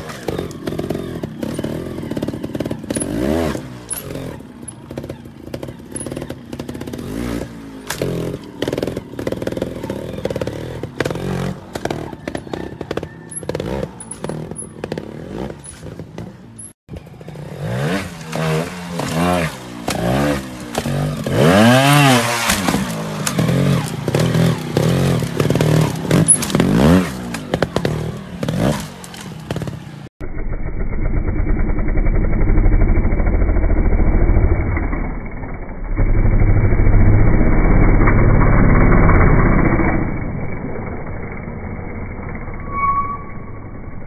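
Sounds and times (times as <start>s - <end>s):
muffled motorcycle engine revving: 0.0s - 42.8s
motorcycle engine revving: 0.0s - 42.9s.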